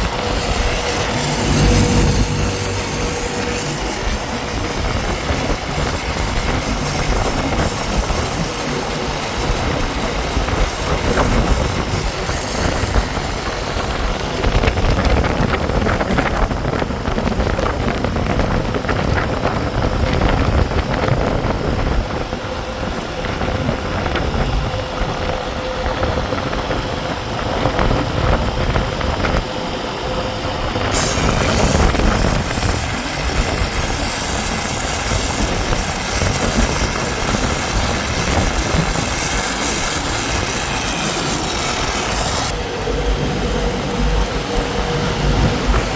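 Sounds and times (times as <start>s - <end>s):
heavy machinery running: 0.0s - 45.9s.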